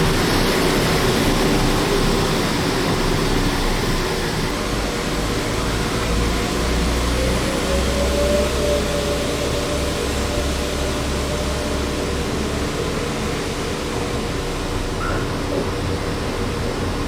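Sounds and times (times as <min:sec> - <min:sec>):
diesel train engine running: 0:00.0 - 0:17.0.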